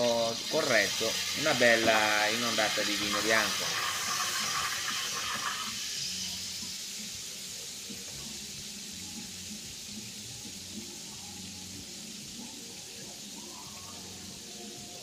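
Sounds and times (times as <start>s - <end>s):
meat sizzling in a frying pan: 0.0s - 15.0s
wine hissing in hot fat: 0.0s - 15.0s.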